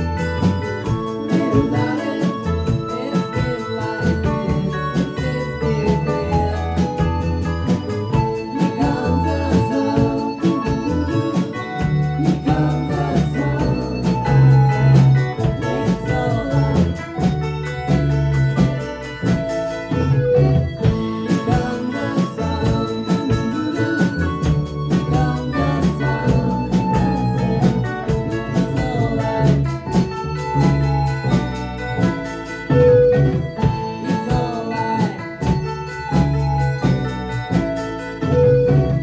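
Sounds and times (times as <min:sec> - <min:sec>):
bass guitar: 0:00.0 - 0:39.0
electronic organ: 0:00.0 - 0:39.0
steady drum beat: 0:00.0 - 0:39.0.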